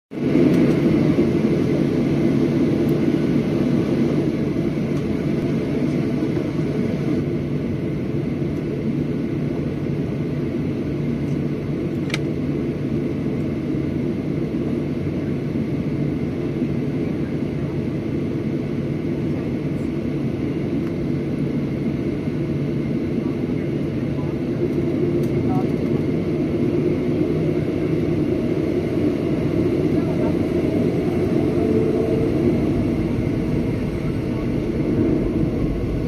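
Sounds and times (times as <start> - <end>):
jet engine drone in cabin: 0.1 - 36.0.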